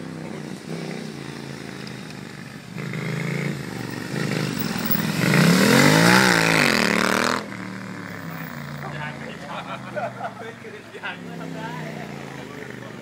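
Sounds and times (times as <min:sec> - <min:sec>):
motorcycle engines riding past: 0:00.0 - 0:13.0.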